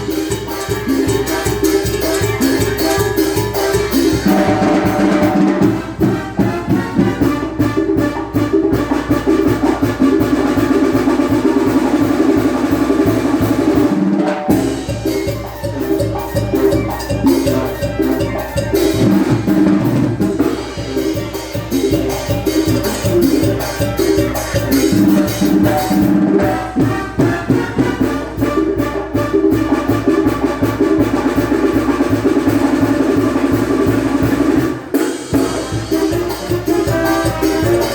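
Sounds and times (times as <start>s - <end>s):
bass drum and snare beat: 0.0s - 37.9s
brass and clarinets playing: 0.0s - 37.9s.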